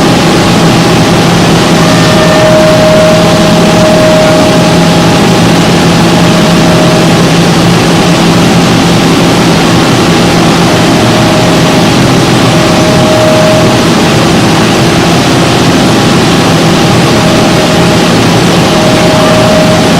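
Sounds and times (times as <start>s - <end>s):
milling machine humming: 0.0s - 19.9s
thin steady whine: 0.0s - 19.9s.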